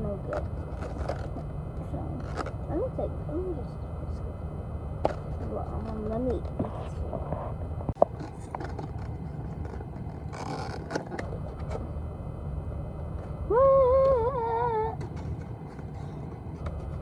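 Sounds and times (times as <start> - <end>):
low car rumble: 0.0 - 17.0.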